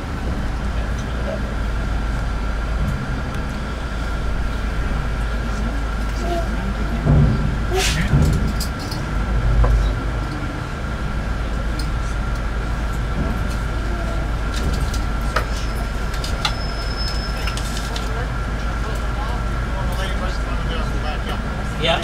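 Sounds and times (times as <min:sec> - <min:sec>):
bus engine low rumble: 0:00.0 - 0:22.0.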